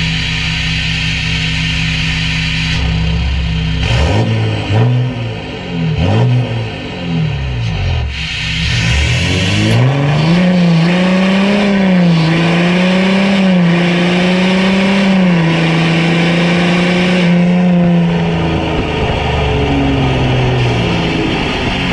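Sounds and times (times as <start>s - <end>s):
diesel engine revving: 0.0s - 21.9s.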